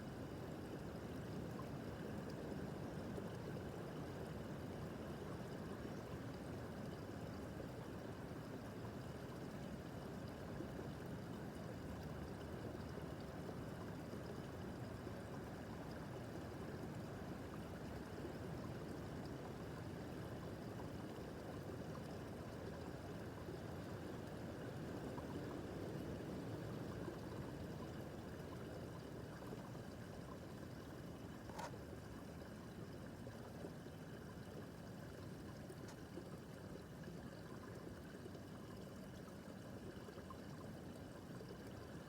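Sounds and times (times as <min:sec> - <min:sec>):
brook water trickling over stones: 0:00.0 - 0:42.0.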